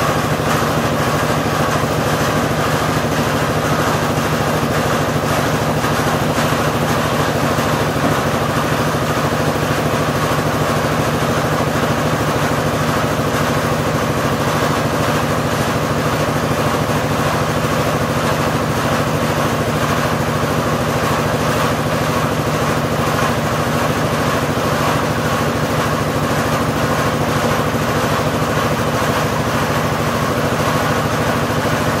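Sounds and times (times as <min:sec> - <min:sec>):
drilling rig petrol engine running: 0:00.0 - 0:32.0.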